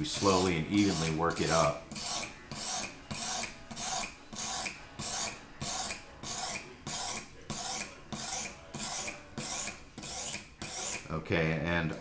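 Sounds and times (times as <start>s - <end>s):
whetstone rasping on knife: 0.1s - 11.1s.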